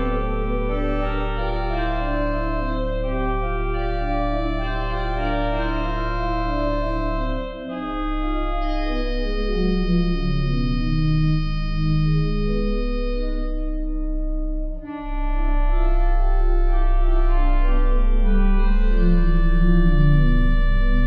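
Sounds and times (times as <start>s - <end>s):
held organ bass note: 0.0s - 21.0s
pipe organ chords: 0.0s - 21.0s.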